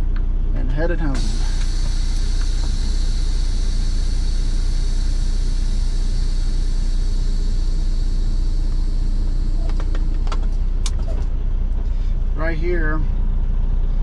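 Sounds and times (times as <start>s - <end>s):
truck engine droning: 0.6s - 14.0s.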